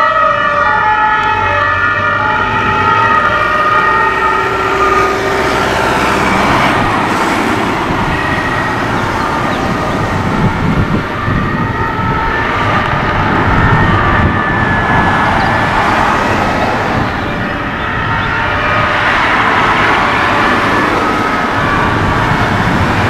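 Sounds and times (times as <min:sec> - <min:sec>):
distant emergency siren: 0:00.0 - 0:23.0
cars driving past: 0:01.2 - 0:23.0.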